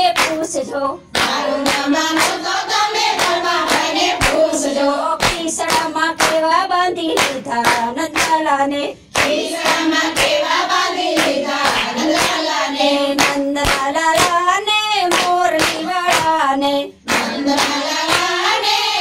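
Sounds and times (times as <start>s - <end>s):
hand-clapping beat: 0.0s - 19.0s
women singing in unison: 0.0s - 19.0s.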